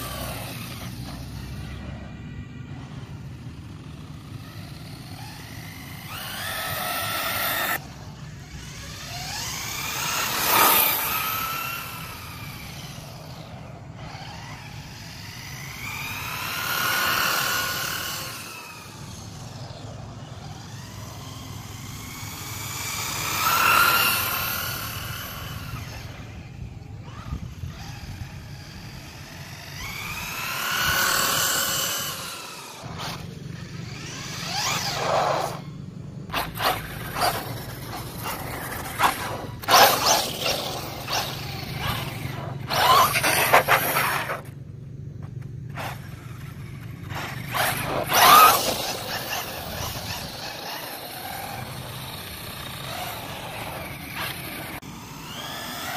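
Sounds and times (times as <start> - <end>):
rc car motor whine passing: 0.0 - 55.9.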